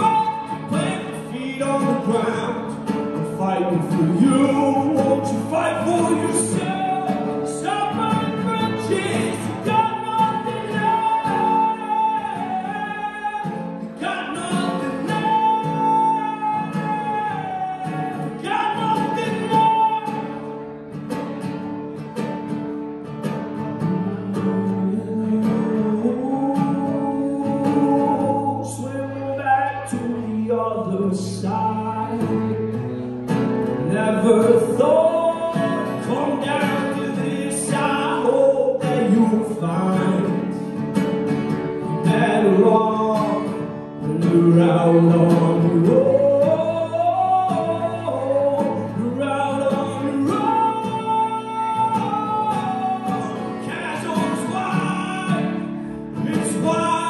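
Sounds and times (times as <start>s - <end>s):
man singing: 0.0s - 20.6s, 23.7s - 33.0s, 33.6s - 57.0s
acoustic guitar: 0.0s - 57.0s.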